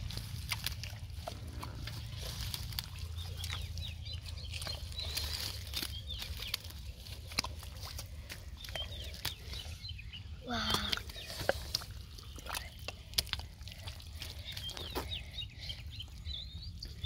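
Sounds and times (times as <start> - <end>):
birds chirping: 0.0 - 17.0
roots and mud squelching: 0.0 - 17.0.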